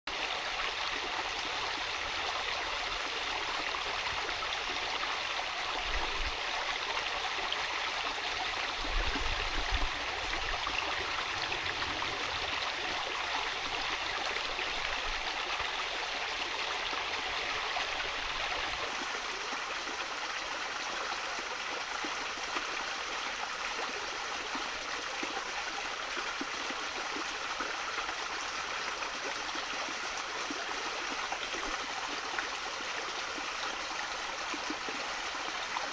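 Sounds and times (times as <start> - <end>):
brook running over stones: 0.1 - 35.9.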